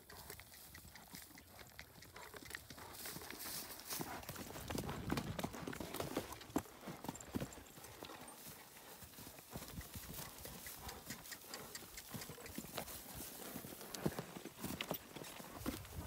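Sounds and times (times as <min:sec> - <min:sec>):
horse hoofbeats on dirt: 0:00.0 - 0:16.0.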